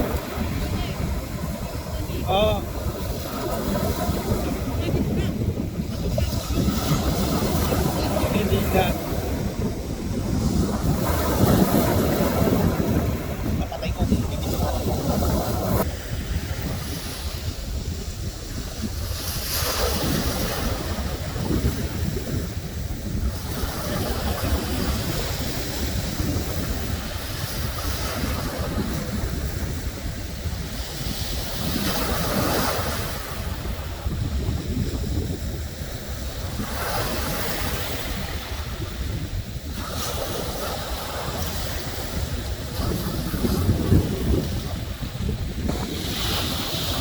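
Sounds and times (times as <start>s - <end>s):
sea waves: 0.0s - 47.0s
wind rumbling on microphone: 0.0s - 47.0s.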